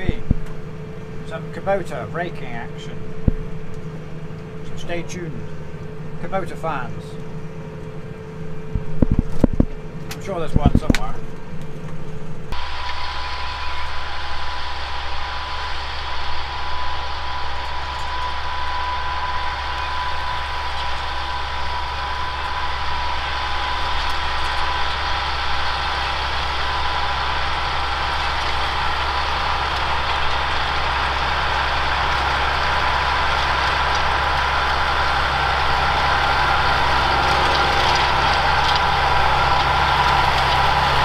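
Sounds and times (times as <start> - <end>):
thin steady whine: 0.0 - 41.0
tractor engine running: 0.0 - 41.0.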